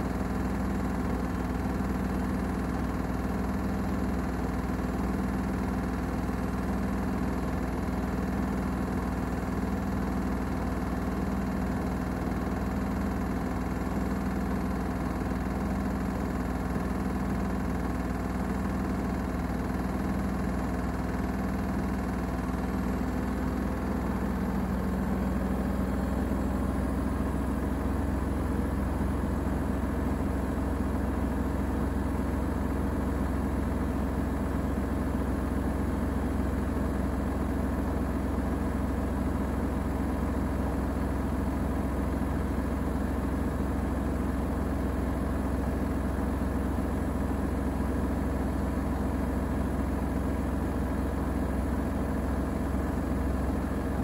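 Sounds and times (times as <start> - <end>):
washing machine spinning: 0.1 - 54.0.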